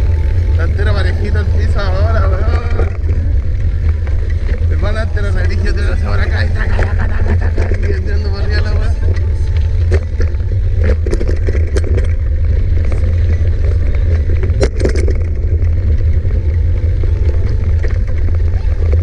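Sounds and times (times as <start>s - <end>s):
bike clicks and rattles: 0.0s - 19.0s
wind rumbling on microphone: 0.0s - 19.0s.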